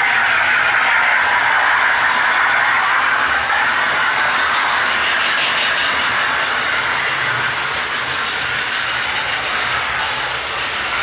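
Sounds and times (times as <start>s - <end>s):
electronic steam chuff hiss: 0.0s - 11.0s
toy trains rolling on track: 0.0s - 11.0s.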